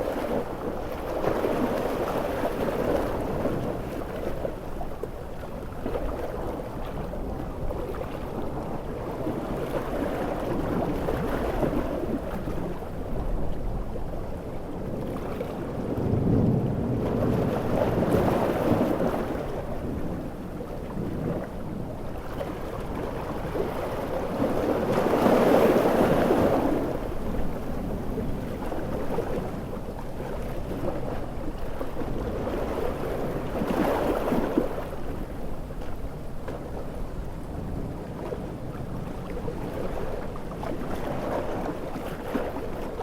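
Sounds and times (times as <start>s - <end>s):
low rumble of surf: 0.0s - 43.0s
ocean waves breaking on shore: 0.0s - 43.0s.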